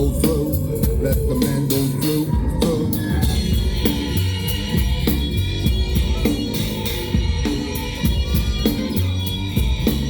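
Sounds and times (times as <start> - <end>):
bass line: 0.0 - 10.0
drum kit beat: 0.0 - 10.0.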